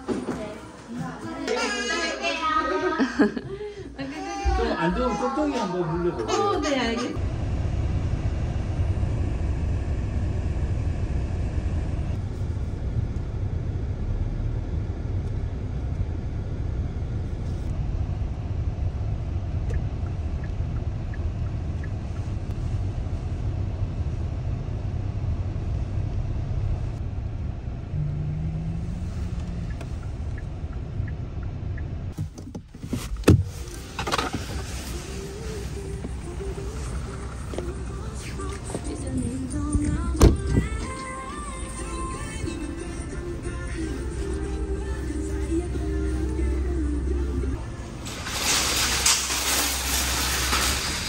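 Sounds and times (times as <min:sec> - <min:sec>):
car road and engine rumble: 0:05.8 - 0:51.0.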